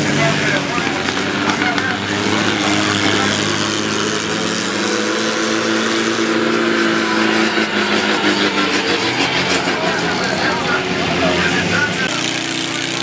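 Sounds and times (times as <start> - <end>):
off-road vehicle engines running: 0.0 - 13.0.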